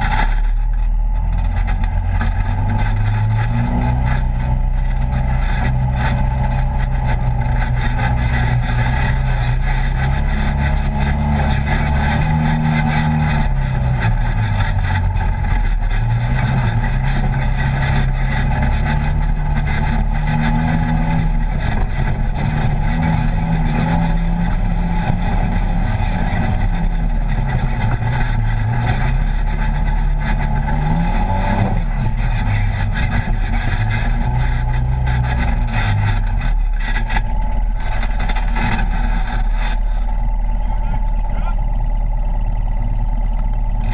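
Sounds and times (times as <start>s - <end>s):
off-road vehicle engine running: 0.0s - 43.9s
wind and road noise: 0.0s - 43.9s.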